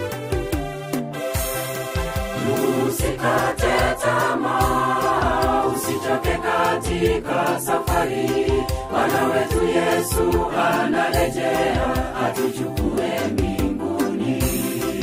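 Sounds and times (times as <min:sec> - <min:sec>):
backing music with steady beat: 0:00.0 - 0:15.0
gospel choir singing: 0:02.3 - 0:15.0.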